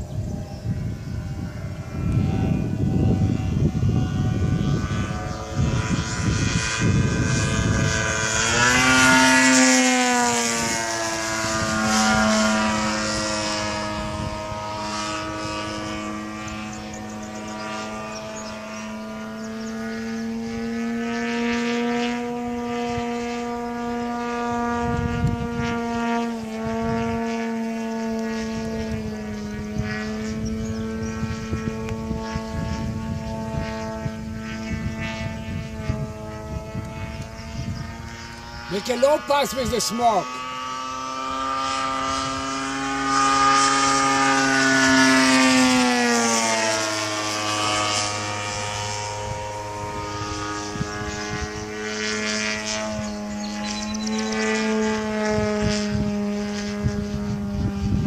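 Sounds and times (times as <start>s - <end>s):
model airplane motor droning: 0.0s - 58.0s
wind rumble on microphone: 0.0s - 58.0s.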